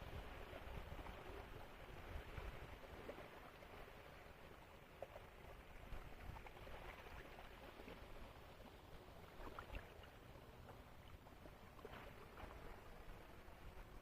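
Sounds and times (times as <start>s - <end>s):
calm sea water lapping: 0.0s - 14.0s
small water splashes: 0.0s - 14.0s.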